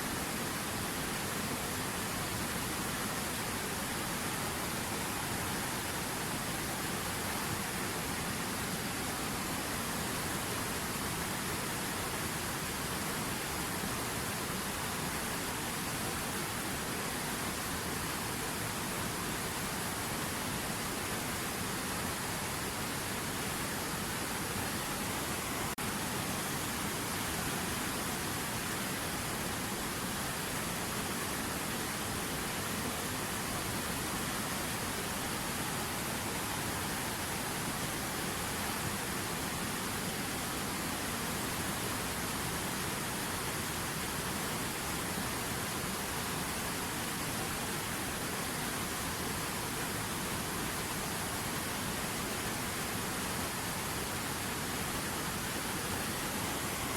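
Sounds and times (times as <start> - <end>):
river water running: 0.0 - 56.9.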